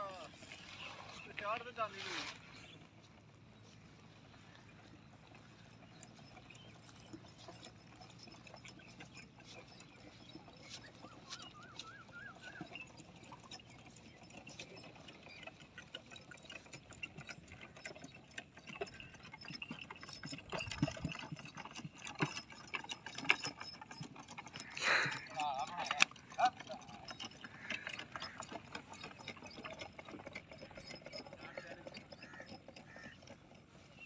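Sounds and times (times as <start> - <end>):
donkey hooves clopping: 0.0 - 34.0
cart rattling knocks: 6.2 - 33.8.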